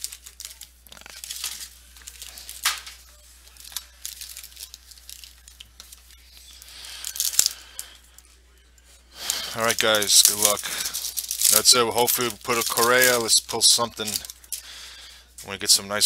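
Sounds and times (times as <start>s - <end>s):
pack wrappers crinkling: 0.0s - 16.0s.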